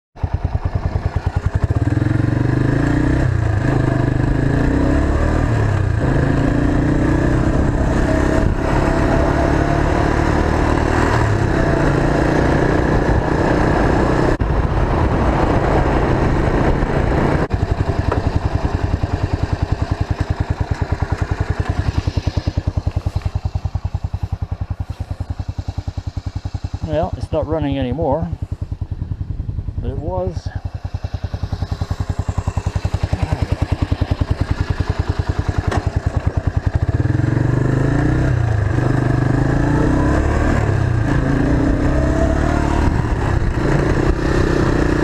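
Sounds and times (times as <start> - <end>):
motor trike engine shifting gears: 0.2 - 14.4, 15.6 - 45.0.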